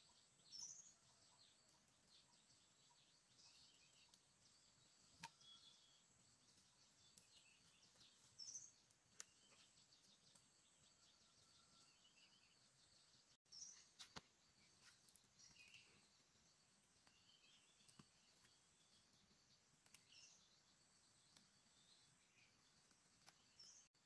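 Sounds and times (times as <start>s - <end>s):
bird chirps: 0.0s - 24.0s.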